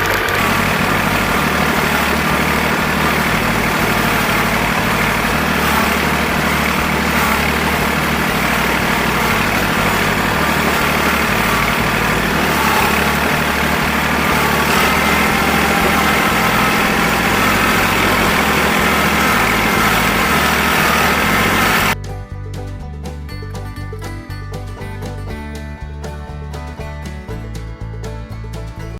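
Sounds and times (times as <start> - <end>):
diesel tractor engine running: 0.0 - 28.9
music: 0.0 - 28.9.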